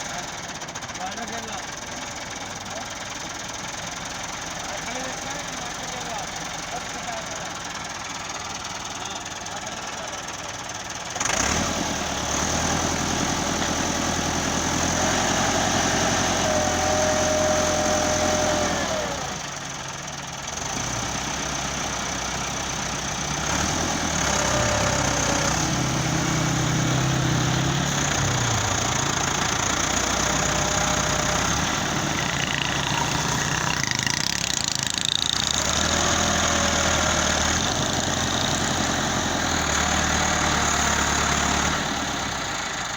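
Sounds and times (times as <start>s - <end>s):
heavy machinery engines running: 0.0s - 42.9s.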